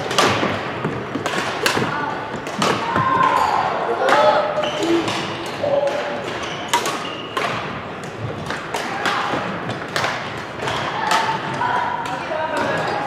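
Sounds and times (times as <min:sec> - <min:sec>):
rackets hitting shuttlecocks: 0:00.0 - 0:13.0.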